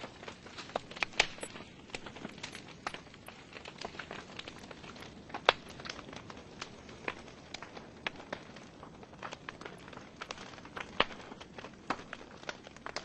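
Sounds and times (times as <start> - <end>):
burning logs crackling: 0.0 - 13.0
faint fire hiss: 0.0 - 13.0.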